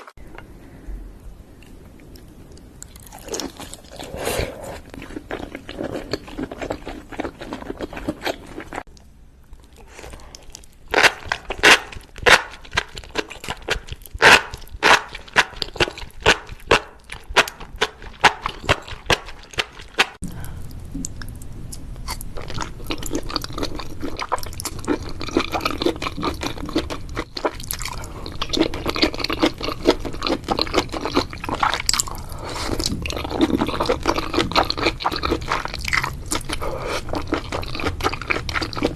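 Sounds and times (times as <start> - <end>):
wet chewing and mouth sounds: 1.6 - 38.9.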